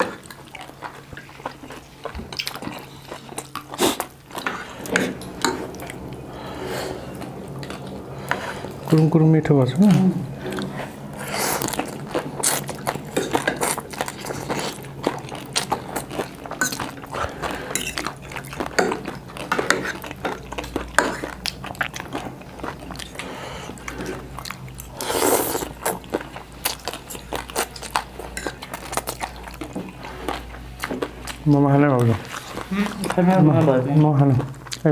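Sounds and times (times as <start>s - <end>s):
crunching and chewing: 0.0s - 9.1s, 10.4s - 34.9s.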